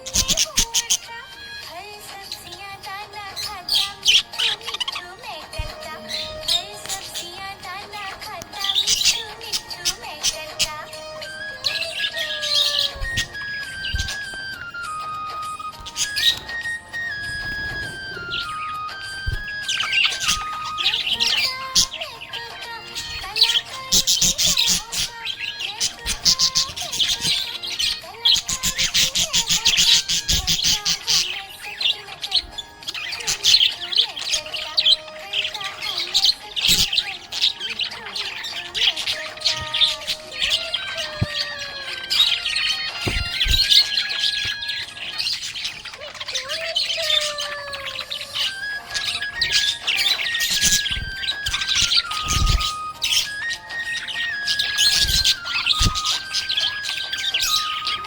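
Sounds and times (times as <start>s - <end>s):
budgerigar chirping: 0.0s - 58.0s.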